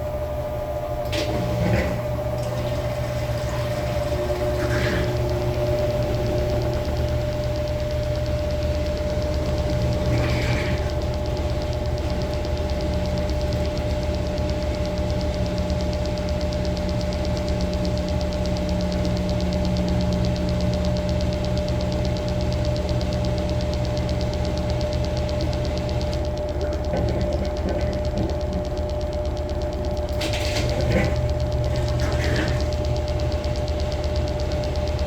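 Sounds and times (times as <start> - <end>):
washing machine motor hum: 0.0 - 35.0
fast even ticking: 5.2 - 30.2, 31.1 - 35.0.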